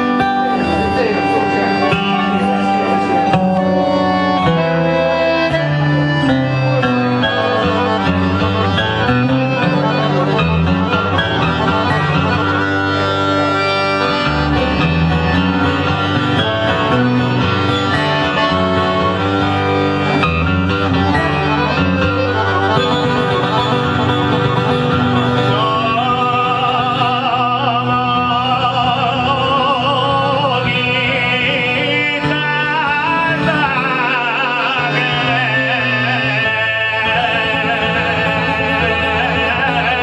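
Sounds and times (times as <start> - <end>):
acoustic guitar: 0.0 - 40.0
piano accordion: 0.0 - 40.0.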